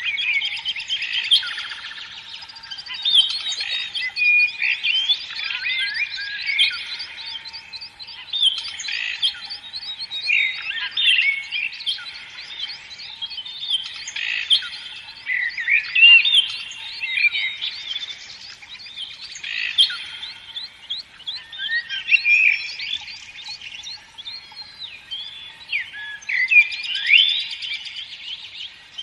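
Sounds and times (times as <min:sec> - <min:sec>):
songbirds chirping and twittering: 0:00.0 - 0:29.0.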